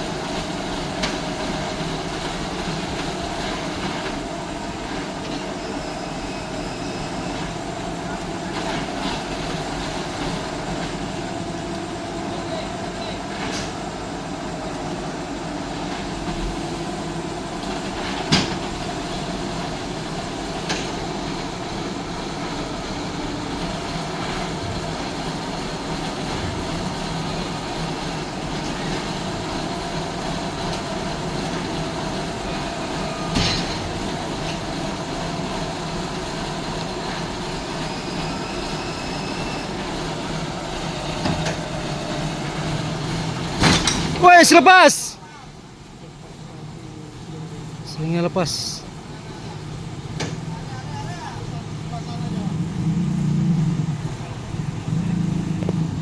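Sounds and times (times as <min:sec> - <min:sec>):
heavy engine under load: 0:00.0 - 0:56.0.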